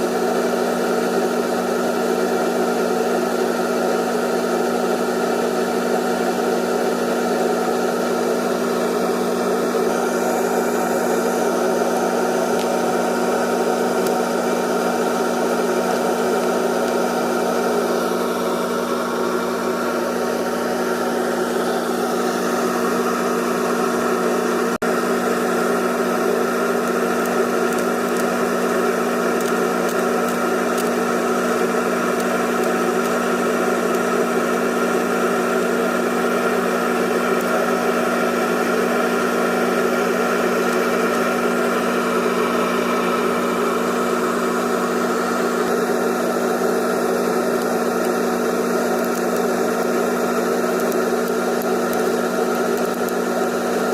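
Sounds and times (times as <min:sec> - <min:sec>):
electric motor humming and whining: 0:00.0 - 0:53.9.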